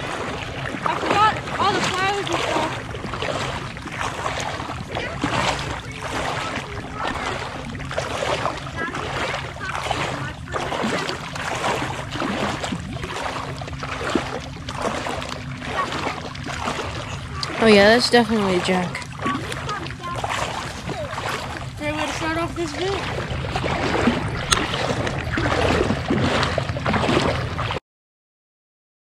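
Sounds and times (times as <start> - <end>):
feet wading through water: 0.0 - 27.8.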